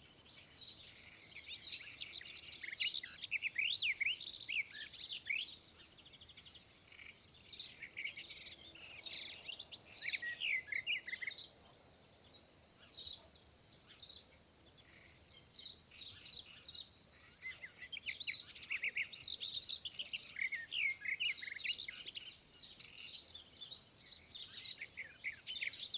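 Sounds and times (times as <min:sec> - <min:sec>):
small birds chirping and twittering: 0:00.0 - 0:25.9.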